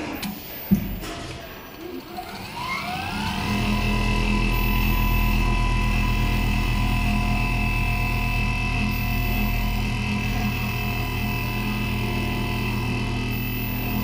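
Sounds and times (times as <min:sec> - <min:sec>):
sewing machine motors whining: 0:01.7 - 0:14.0
sewing machine running hum: 0:02.0 - 0:14.0.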